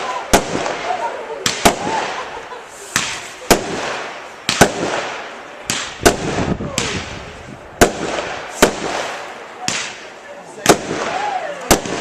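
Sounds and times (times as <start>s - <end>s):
crackling hiss: 0.0s - 12.0s.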